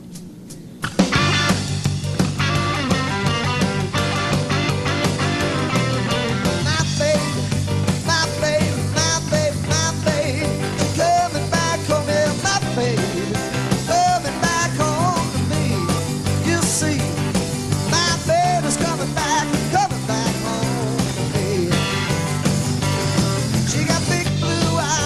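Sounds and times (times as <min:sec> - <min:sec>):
blues-rock band playing: 0:00.8 - 0:25.0
electric guitar bent notes: 0:00.8 - 0:25.0.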